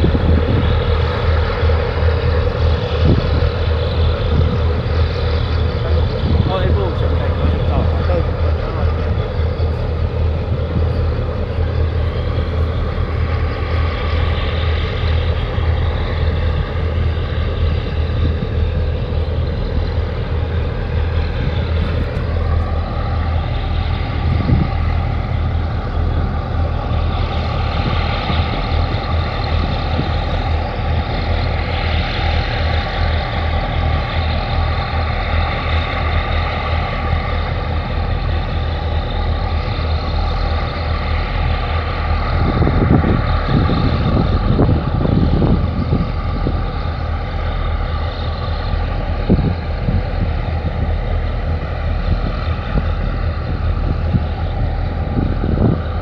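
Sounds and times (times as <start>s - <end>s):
ship diesel engines rumbling: 0.0s - 56.0s
steady higher whine: 0.0s - 56.0s.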